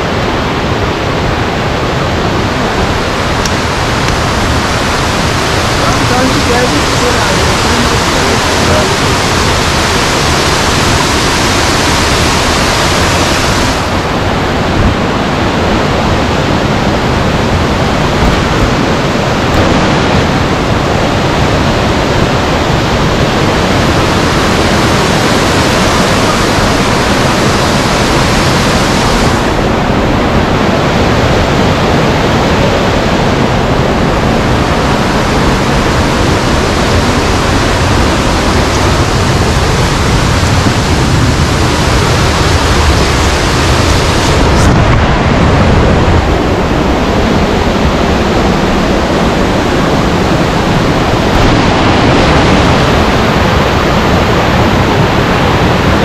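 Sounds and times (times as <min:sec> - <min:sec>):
waterfall stream rushing: 0:00.0 - 0:56.0.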